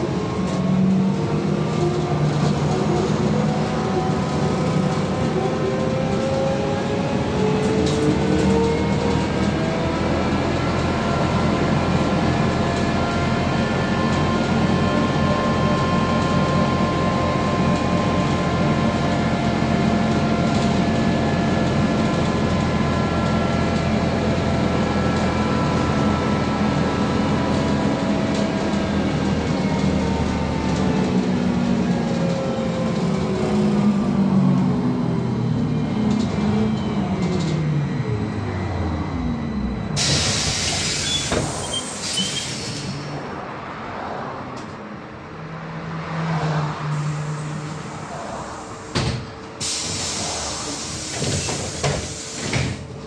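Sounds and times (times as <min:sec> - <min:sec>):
trolleybus electric drive whine: 0:00.0 - 0:53.0.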